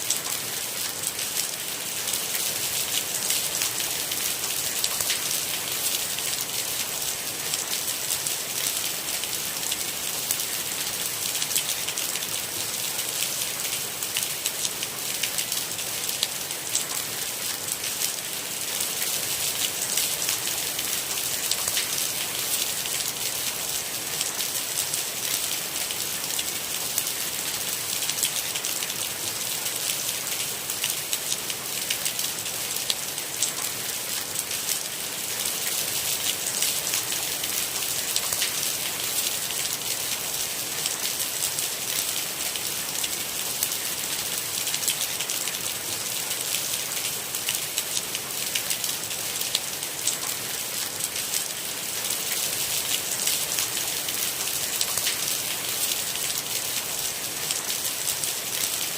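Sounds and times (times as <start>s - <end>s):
dense rain pattering: 0.0s - 58.9s.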